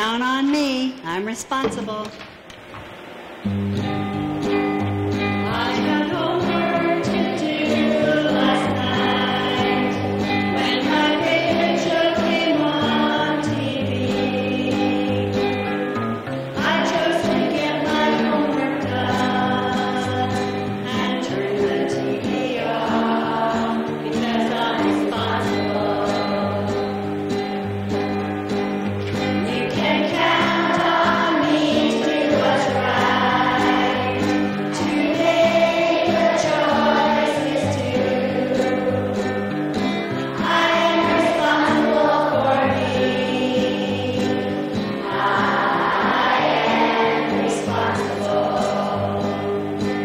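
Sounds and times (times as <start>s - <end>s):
strummed acoustic guitar: 2.7s - 50.0s
group singing: 5.4s - 15.7s, 16.6s - 27.0s, 29.4s - 50.0s.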